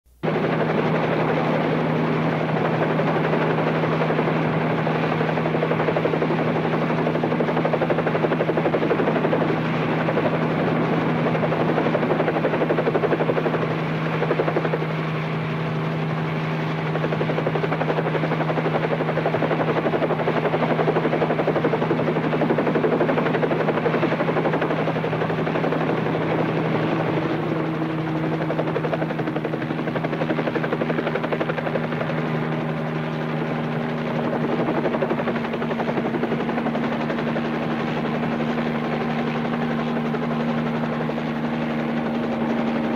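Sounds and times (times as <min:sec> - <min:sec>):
helicopter rotor and engine drone: 0:00.1 - 0:42.9.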